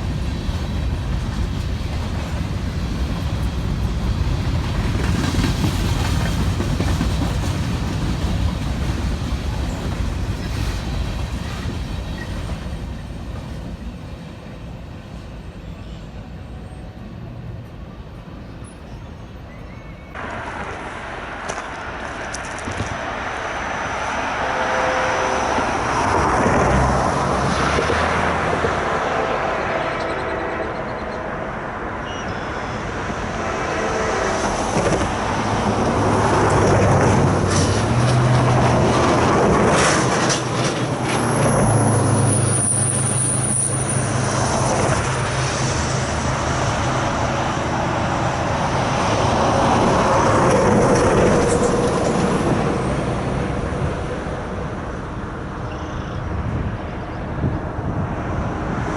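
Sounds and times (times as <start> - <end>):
diesel locomotive engine drone: 0.0 - 58.9
wheels rumbling on rails: 0.0 - 58.9.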